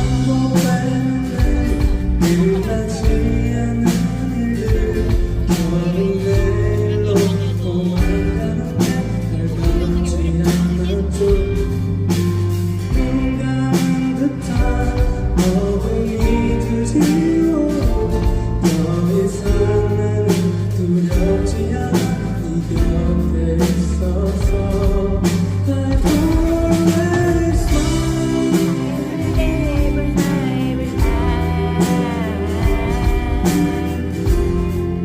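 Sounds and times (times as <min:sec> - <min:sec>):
live pop band playing: 0:00.0 - 0:35.0
person singing: 0:00.0 - 0:35.0.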